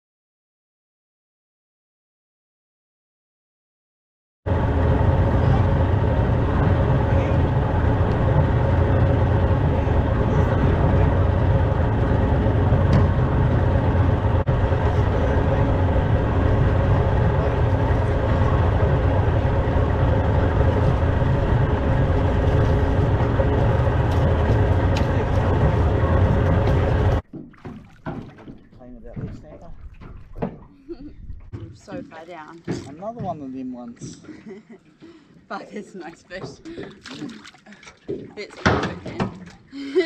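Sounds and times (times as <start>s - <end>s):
outboard motor running: 4.5s - 40.0s.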